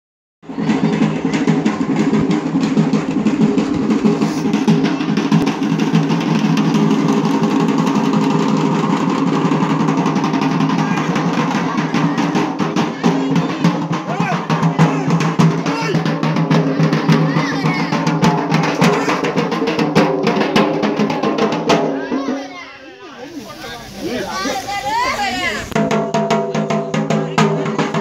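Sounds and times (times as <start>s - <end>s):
drums beaten fast: 0.4s - 22.7s, 25.3s - 28.0s.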